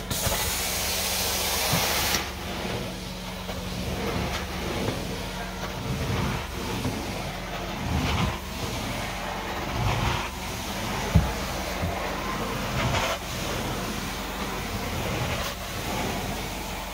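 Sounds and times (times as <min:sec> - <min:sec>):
cleaning machine vacuum drone: 0:00.0 - 0:16.9.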